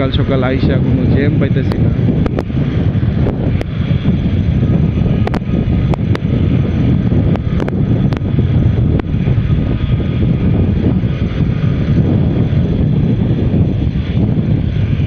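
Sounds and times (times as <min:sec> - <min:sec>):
motorcycle and road noise: 0:00.0 - 0:15.0
wind buffeting microphone: 0:00.0 - 0:15.0.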